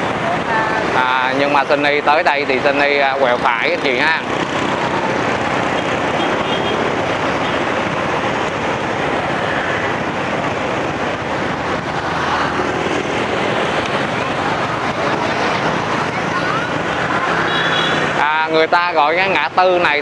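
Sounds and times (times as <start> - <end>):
motorbike and car traffic: 0.0 - 20.0
wind rushing over microphone: 0.0 - 20.0.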